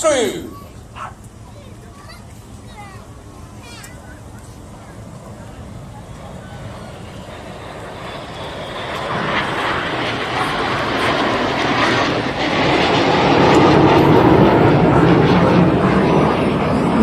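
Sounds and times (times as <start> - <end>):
jet engines roaring overhead: 0.0 - 17.0.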